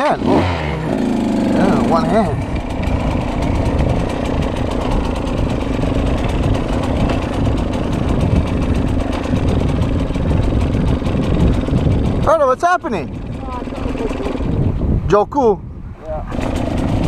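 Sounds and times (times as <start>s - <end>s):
dirt bike engine idling: 0.0s - 15.1s, 16.3s - 17.0s.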